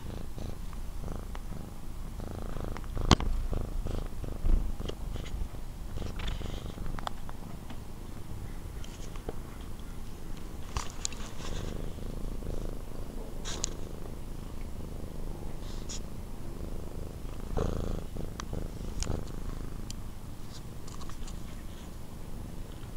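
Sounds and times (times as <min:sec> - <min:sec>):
cat purring: 0:00.0 - 0:08.8, 0:09.5 - 0:22.9.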